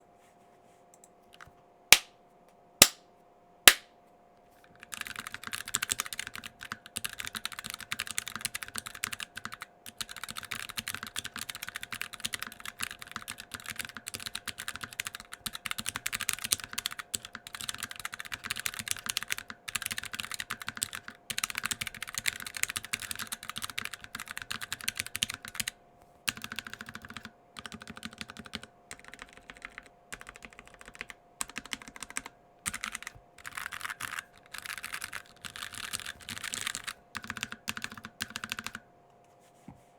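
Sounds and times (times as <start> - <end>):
mechanical keyboard typing: 4.7 - 38.8.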